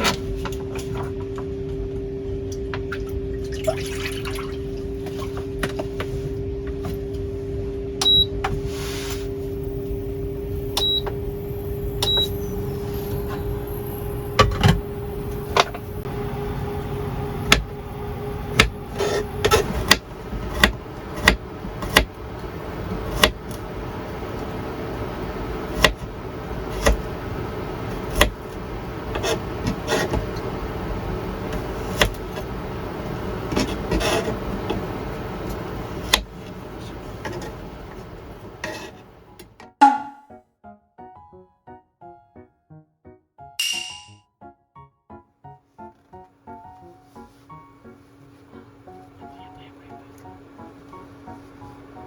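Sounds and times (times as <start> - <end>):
cooking appliance humming: 0.0 - 40.0, 47.4 - 52.0.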